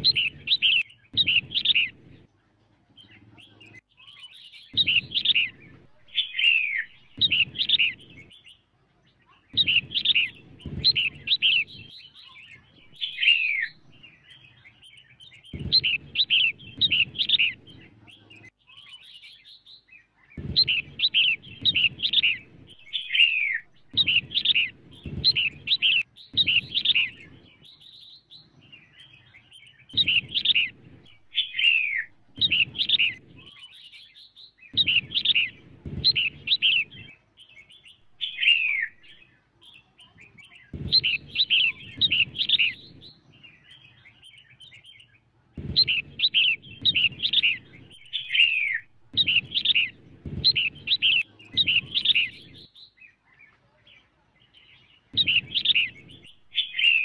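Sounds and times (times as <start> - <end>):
bulbul chirping calls: 0.0 - 2.3, 3.0 - 8.6, 9.4 - 19.8, 20.4 - 53.0, 55.1 - 57.0.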